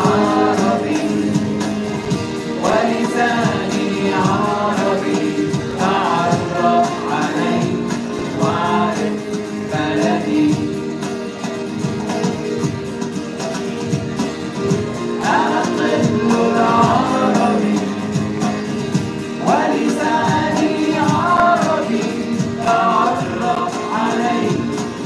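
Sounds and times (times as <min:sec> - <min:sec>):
person singing: 0:00.0 - 0:11.0, 0:15.2 - 0:18.6, 0:19.3 - 0:25.0
children's song with held notes: 0:00.0 - 0:25.0.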